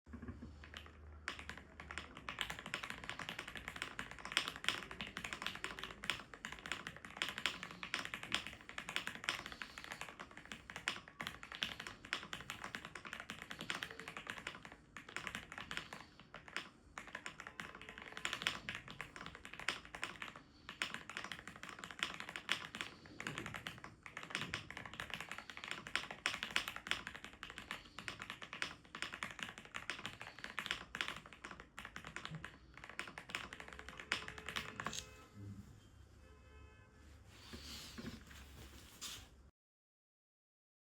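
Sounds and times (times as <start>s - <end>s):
mechanical keyboard typing: 0.6s - 35.2s.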